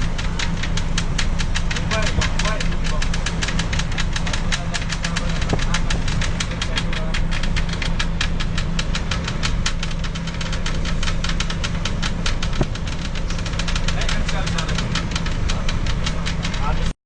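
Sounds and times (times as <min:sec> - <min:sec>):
engine knocking rapidly: 0:00.0 - 0:17.0.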